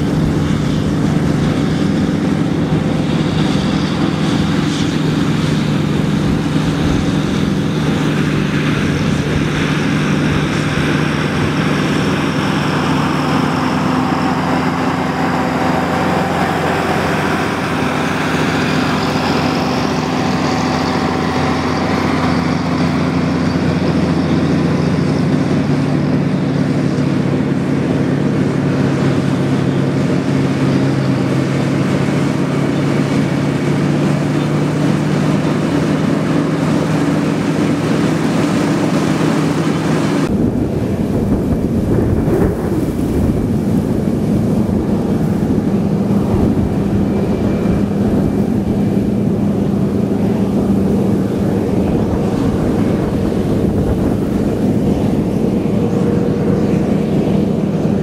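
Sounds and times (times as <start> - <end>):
combine harvester engine drone: 0.0 - 58.0
threshing machinery rush: 0.0 - 58.0.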